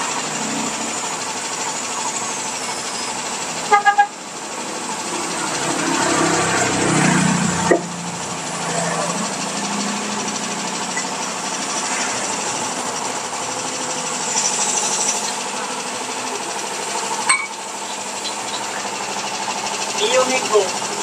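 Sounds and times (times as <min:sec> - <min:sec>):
machine rattling: 0:00.0 - 0:21.0.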